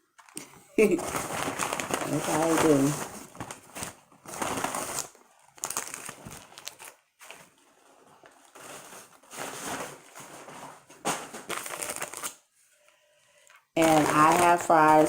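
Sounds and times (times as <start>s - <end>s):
paper bags crinkling: 0.1s - 12.4s, 13.8s - 15.0s.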